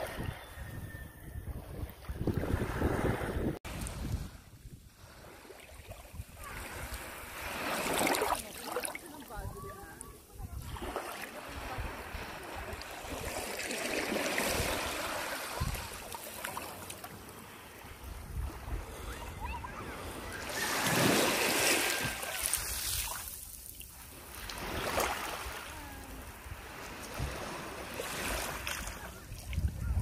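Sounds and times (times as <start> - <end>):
small waves breaking: 2.4 - 29.8.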